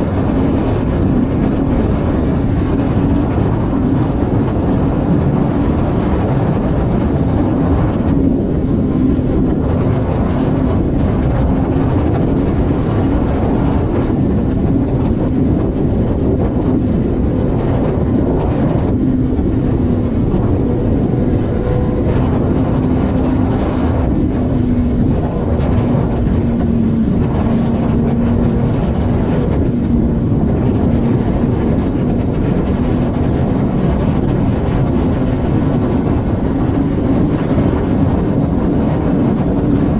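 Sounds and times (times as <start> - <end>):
engine drone: 0.0 - 39.9
road and wind rumble: 0.0 - 39.9.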